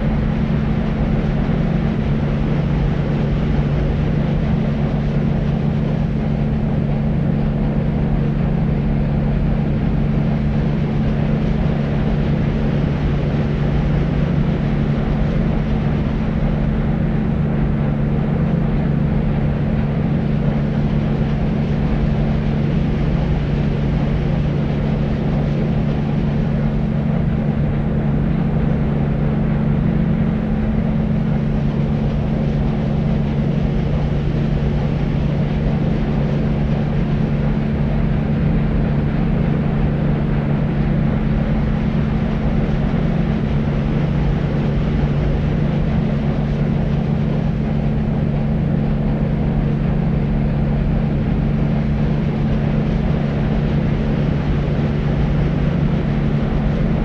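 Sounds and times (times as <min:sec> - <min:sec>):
constant low hum: 0:00.0 - 0:57.0
deep white noise: 0:00.0 - 0:57.0.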